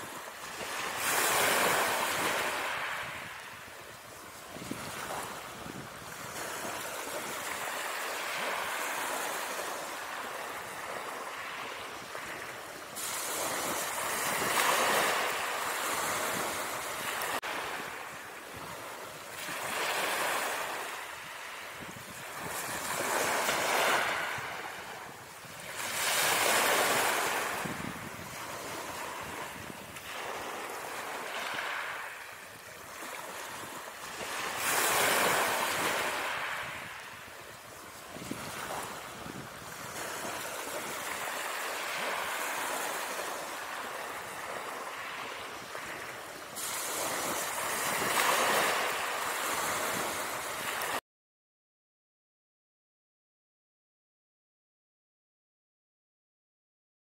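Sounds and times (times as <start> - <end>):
waves washing onto shore: 0.0 - 51.0.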